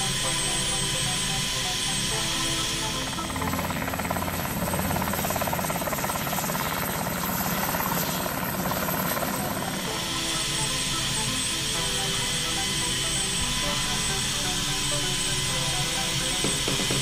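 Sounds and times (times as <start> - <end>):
helicopter rotor chop: 0.0 - 17.0
high turbine whine: 0.0 - 17.0.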